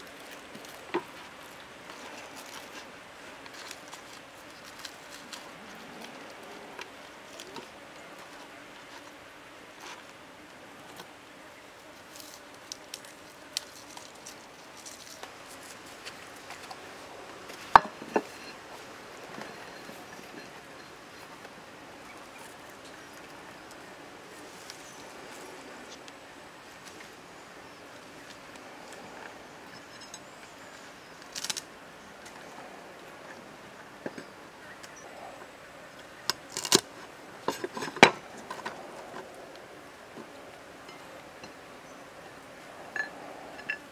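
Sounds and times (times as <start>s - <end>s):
leafy stems crackling: 0.0s - 11.1s, 11.7s - 43.9s.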